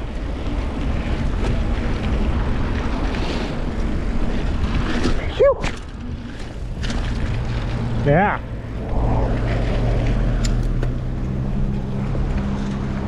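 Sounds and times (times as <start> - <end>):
wind buffeting microphone: 0.0 - 13.0
bike tyre noise: 0.4 - 13.0.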